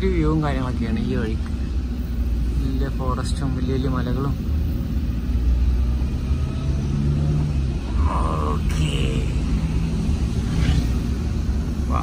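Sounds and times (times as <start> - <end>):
car engine hum: 0.0 - 12.0
road rumble: 0.0 - 12.0.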